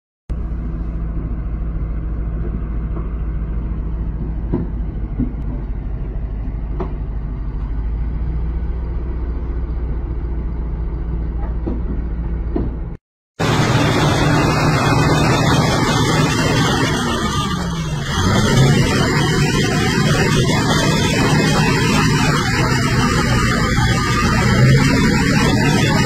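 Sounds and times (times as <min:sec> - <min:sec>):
bulldozer diesel engine under load: 0:00.3 - 0:26.0.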